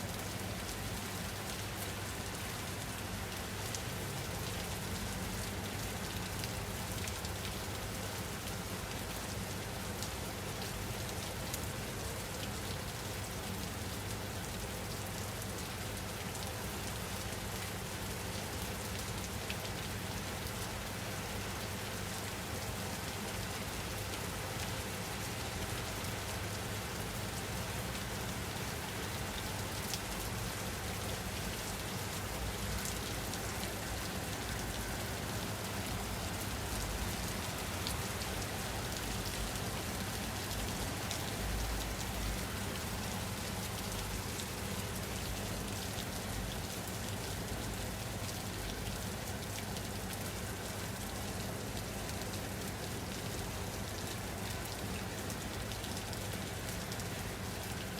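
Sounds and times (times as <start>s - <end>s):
rain hissing on a surface: 0.0s - 57.9s.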